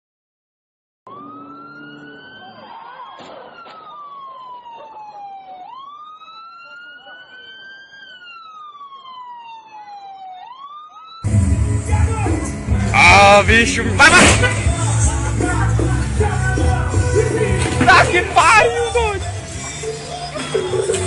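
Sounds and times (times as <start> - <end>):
police siren wailing: 1.1 - 21.0.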